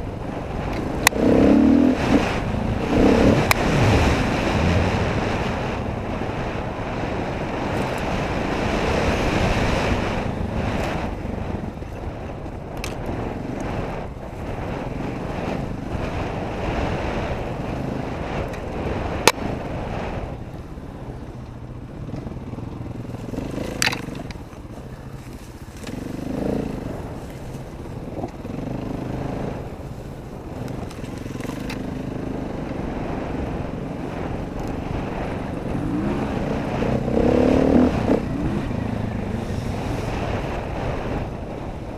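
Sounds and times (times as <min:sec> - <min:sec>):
dirt bike engine running: 0:00.0 - 0:41.9
wind noise on helmet: 0:00.0 - 0:41.9.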